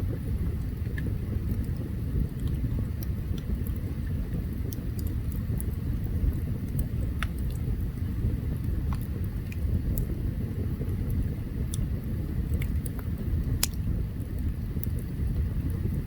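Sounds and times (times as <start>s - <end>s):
campfire crackling and popping: 0.1s - 16.0s.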